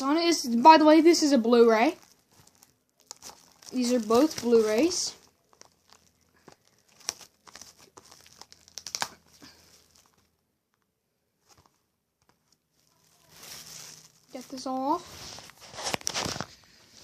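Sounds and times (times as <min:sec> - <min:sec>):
plastic wrapping crinkling and tearing: 0:01.0 - 0:10.4, 0:11.4 - 0:17.0.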